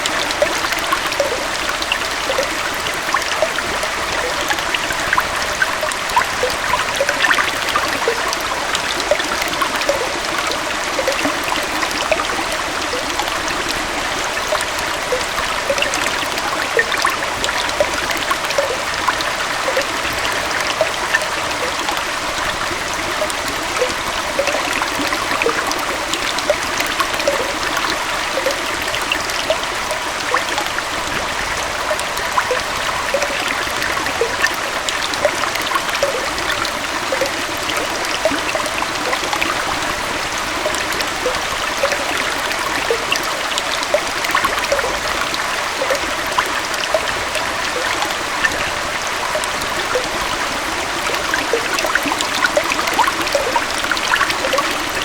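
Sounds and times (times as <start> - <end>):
gentle waterfall: 0.0 - 55.0
water drips and splashes: 0.0 - 55.0.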